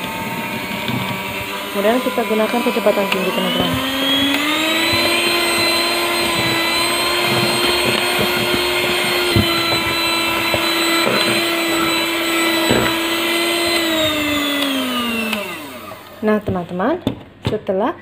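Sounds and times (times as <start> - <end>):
electric hand mixer whining: 0.0 - 16.8.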